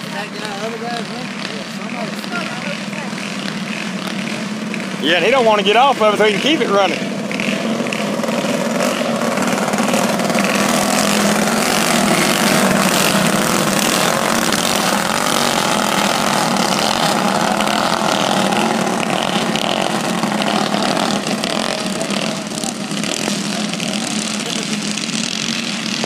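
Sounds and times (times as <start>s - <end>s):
go-kart engines at high revs: 0.0s - 26.0s.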